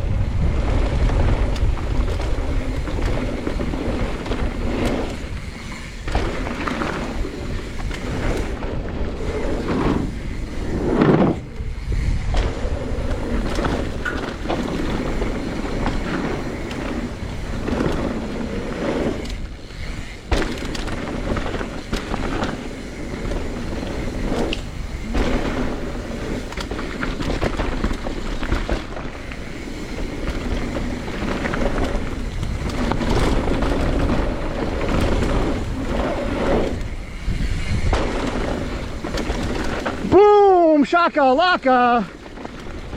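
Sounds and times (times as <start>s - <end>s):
bike rattling over rough ground: 0.0s - 42.9s
wind rushing over microphone: 0.0s - 42.9s.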